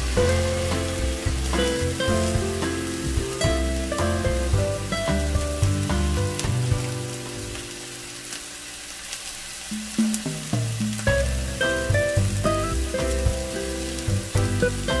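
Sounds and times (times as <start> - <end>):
background music: 0.0 - 7.6, 10.1 - 15.0
meat sizzling in frying pan: 0.0 - 15.0.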